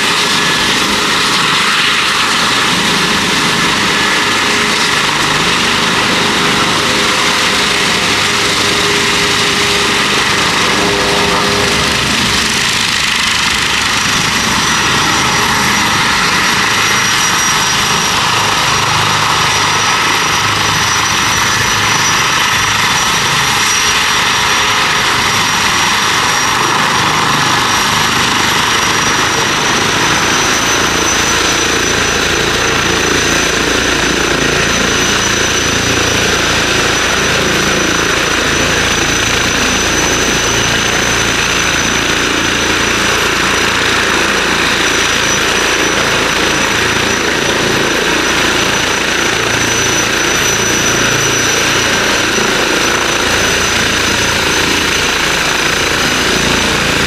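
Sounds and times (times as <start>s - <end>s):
helicopter rotor beat: 0.0s - 57.0s
helicopter turbine whine: 0.0s - 57.0s.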